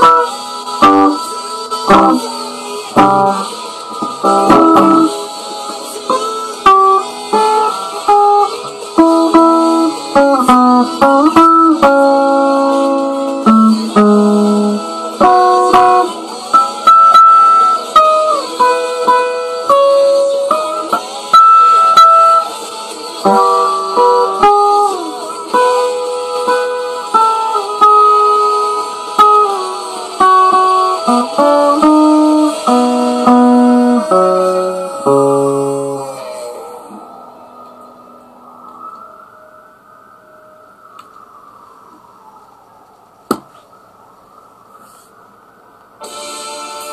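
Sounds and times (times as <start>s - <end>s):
guitar playing chords: 0.0s - 41.4s.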